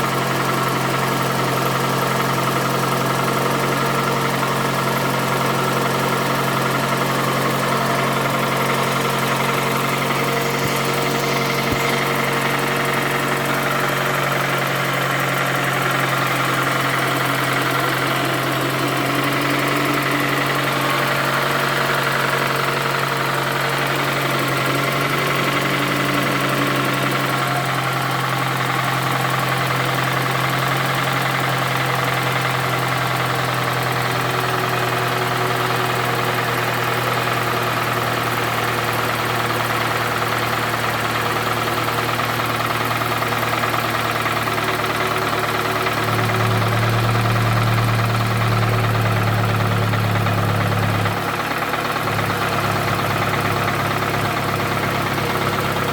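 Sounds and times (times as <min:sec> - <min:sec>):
car engine idling with a knock: 0:00.1 - 0:55.9.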